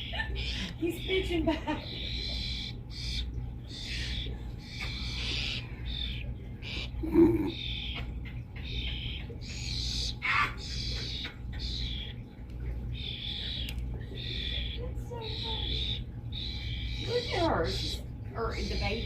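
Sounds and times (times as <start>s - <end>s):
starling calling back: 0.0s - 8.0s, 8.6s - 19.0s
young starling begging calls: 0.0s - 19.0s.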